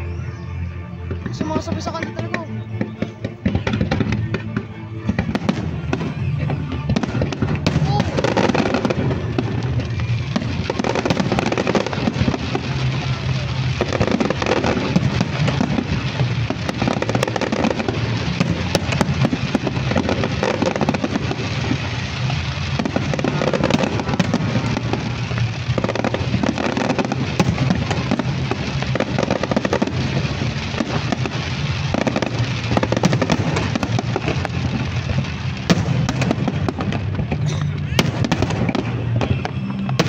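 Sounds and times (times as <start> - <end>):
fireworks crackling and popping: 0.0 - 40.0
show music: 0.0 - 40.0.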